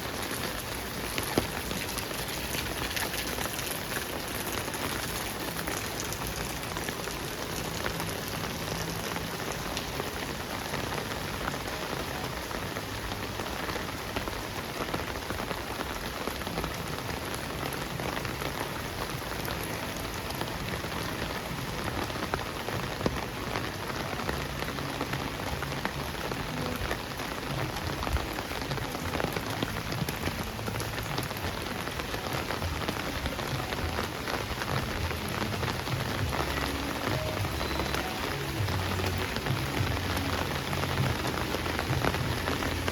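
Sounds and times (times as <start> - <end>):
heavy rain: 0.0 - 42.9
raindrops ticking on surfaces: 0.0 - 42.9.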